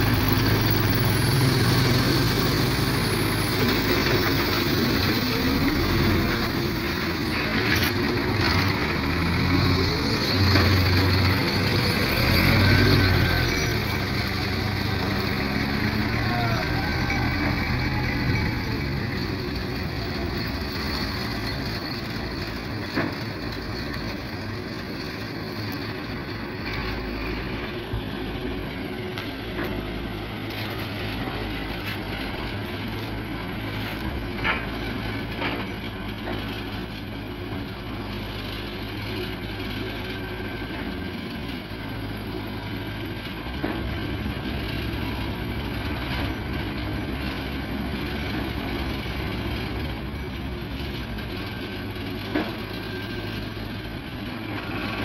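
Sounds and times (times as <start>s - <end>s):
forklift engine running: 0.0s - 55.0s.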